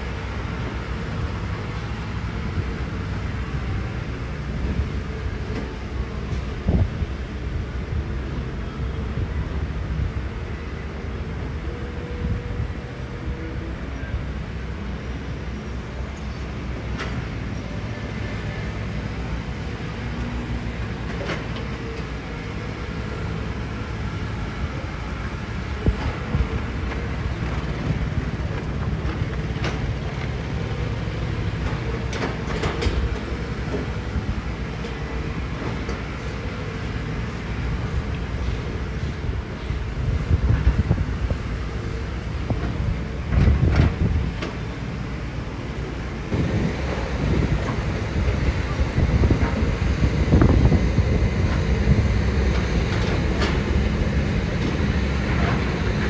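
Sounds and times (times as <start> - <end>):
construction machinery engine rumble: 0.0 - 56.0.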